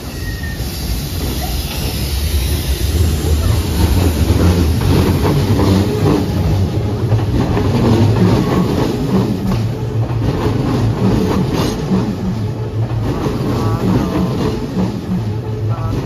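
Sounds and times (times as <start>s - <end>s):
electric train rumble: 0.0s - 16.0s
wheels clacking over rail joints: 0.0s - 16.0s.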